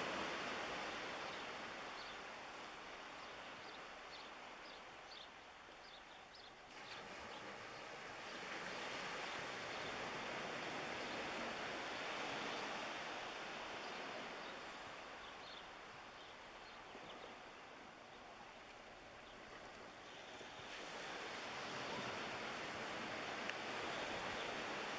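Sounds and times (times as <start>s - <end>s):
wave washing on shore: 0.0s - 4.6s, 6.7s - 24.9s.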